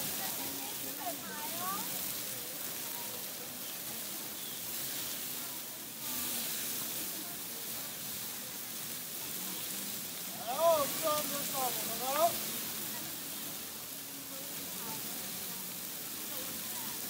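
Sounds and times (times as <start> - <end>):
faint crowd voices: 0.0 - 17.0
meat sizzling on griddle: 0.0 - 17.0.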